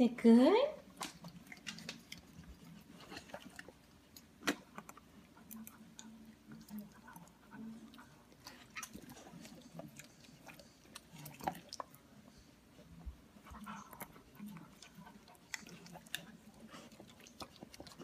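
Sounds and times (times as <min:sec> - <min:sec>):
dog licking and smacking: 0:00.8 - 0:18.0.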